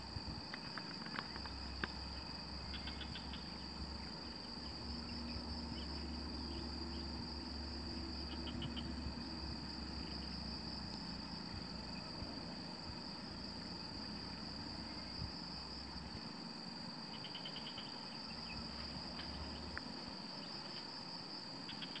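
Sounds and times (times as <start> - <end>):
high-pitched insect chorus: 0.0 - 22.0
insect rapid trills: 0.0 - 22.0.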